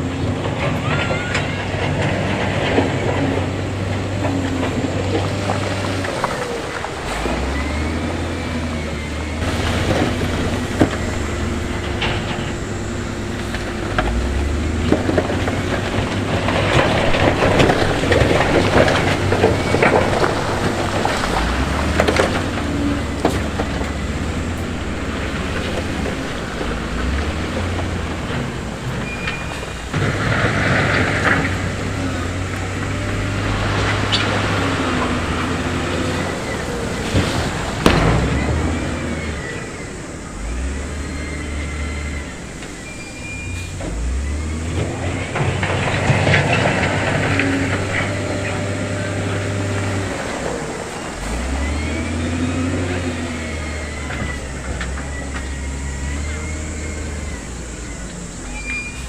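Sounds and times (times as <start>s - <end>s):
heavy machine diesel engines revving: 0.0s - 59.0s.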